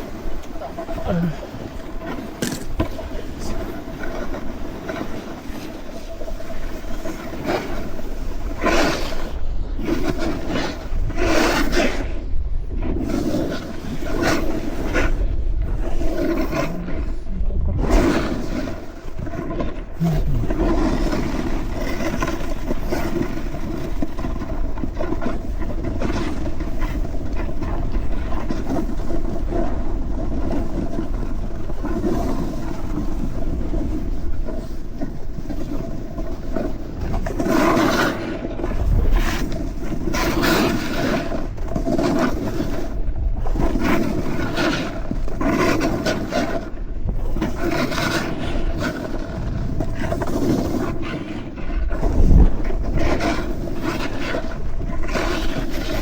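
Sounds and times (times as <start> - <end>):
snowboard scraping over snow: 0.0 - 56.0.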